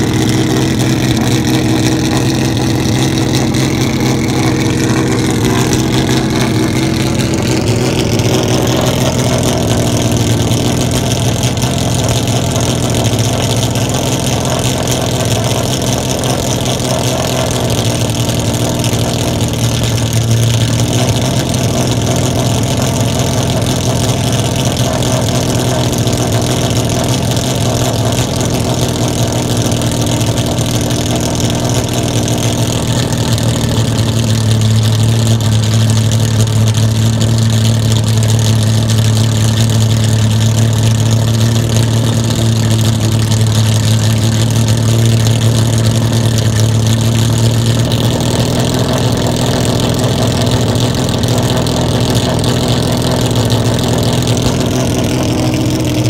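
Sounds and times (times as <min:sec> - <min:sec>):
racecar engine idling: 0:00.0 - 0:56.0.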